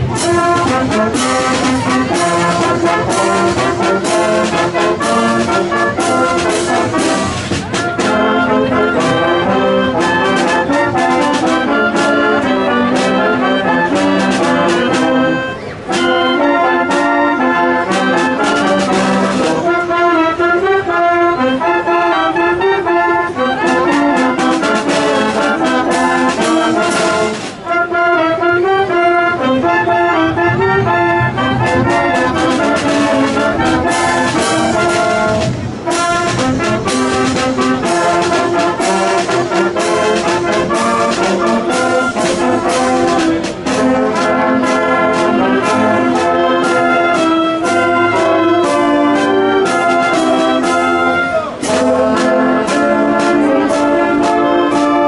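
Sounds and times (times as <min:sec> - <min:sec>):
wind band playing: 0:00.0 - 0:55.0.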